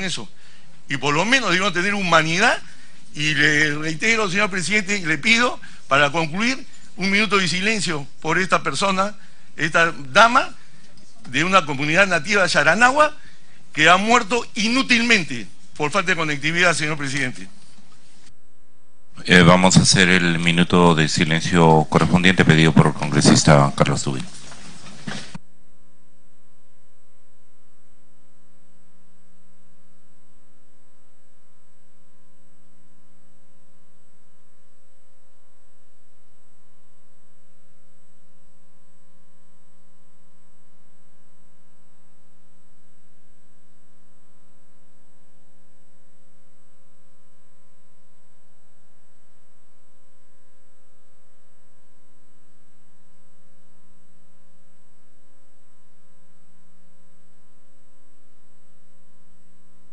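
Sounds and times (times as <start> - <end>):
electrical mains hum: 0.0 - 59.9
thin high whine: 0.0 - 59.9.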